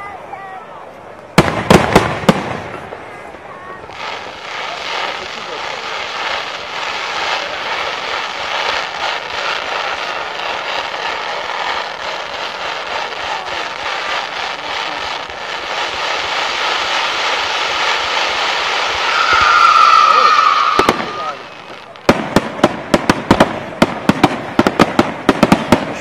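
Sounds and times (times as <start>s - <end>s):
fireworks crackling: 0.0s - 26.0s
fireworks fountain hissing: 0.0s - 26.0s.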